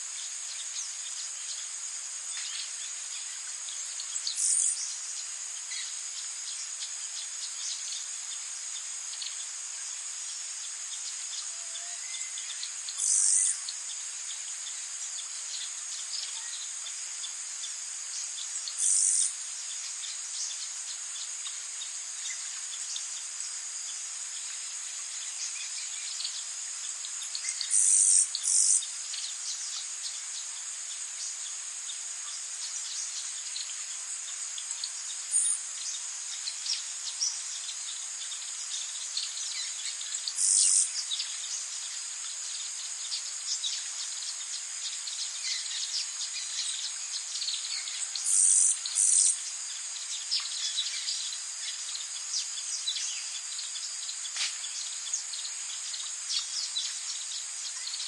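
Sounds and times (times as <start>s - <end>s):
crickets and insects chorus: 0.0s - 58.0s
insect buzzes: 0.0s - 58.0s
faint bird chirps: 10.2s - 58.0s.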